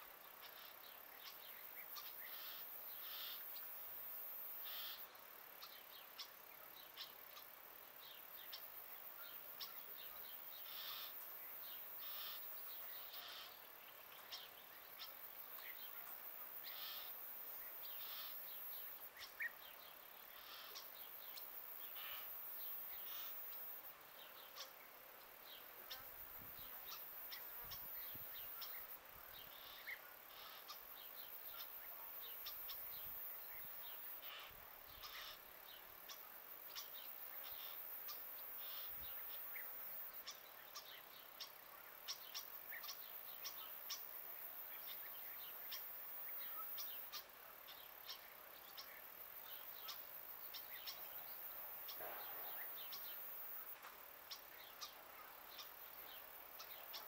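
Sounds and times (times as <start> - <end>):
small birds chirping: 0.0 - 57.0
steady background hiss: 0.0 - 57.0.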